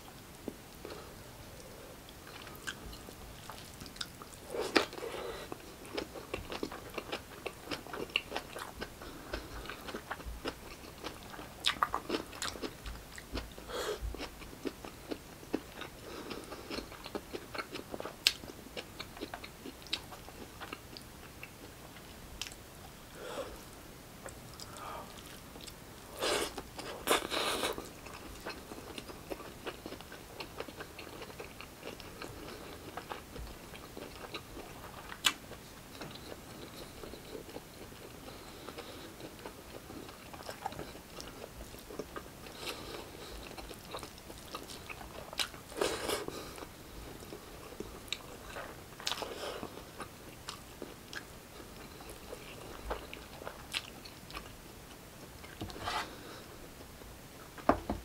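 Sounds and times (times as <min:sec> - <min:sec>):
man chewing with wet mouth sounds: 0:00.1 - 0:56.7.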